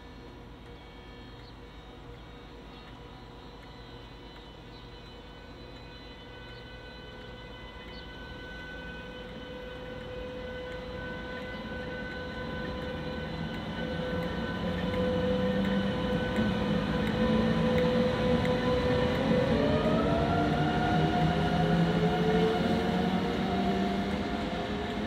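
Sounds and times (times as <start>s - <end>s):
locomotive engine hum and whine: 0.0s - 25.0s.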